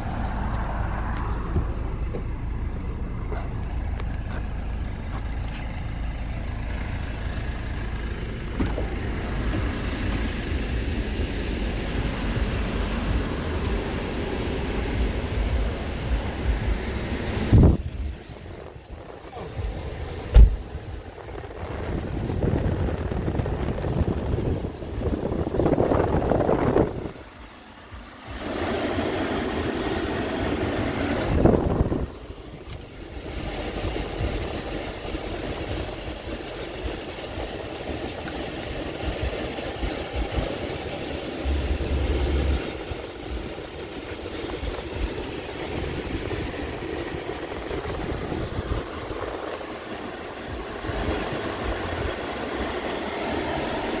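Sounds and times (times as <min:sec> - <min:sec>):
car blower fan running: 0:00.0 - 0:54.0
car engine idling: 0:00.0 - 0:54.0.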